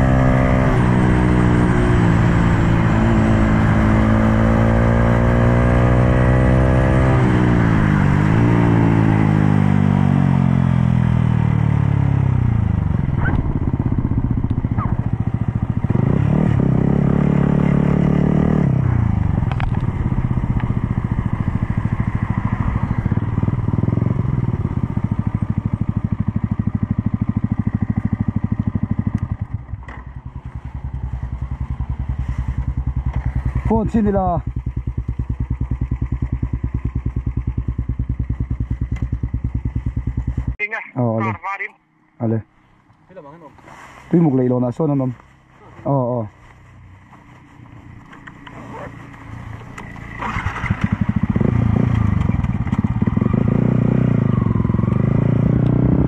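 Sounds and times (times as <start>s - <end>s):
motorcycle engine while riding: 0.0s - 40.6s, 45.1s - 56.0s.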